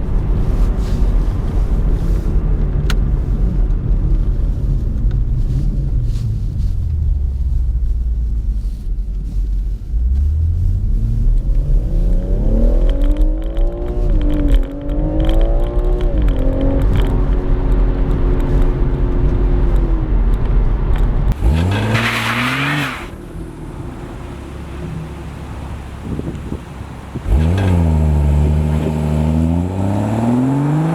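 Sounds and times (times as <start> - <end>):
car engine accelerating: 0.0 - 30.9.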